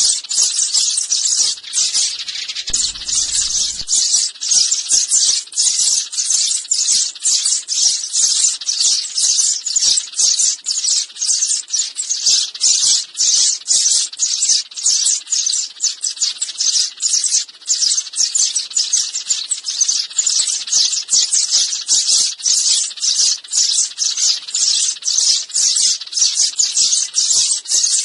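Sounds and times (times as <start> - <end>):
sparrows chirping: 0.0 - 28.0.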